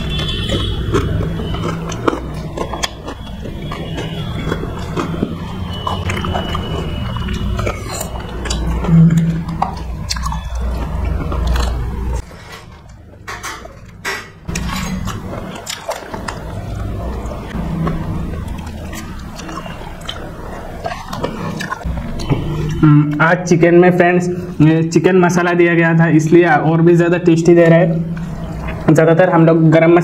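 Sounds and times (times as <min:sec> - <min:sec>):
close chewing and mouth sounds: 0:00.0 - 0:23.2, 0:26.7 - 0:30.0.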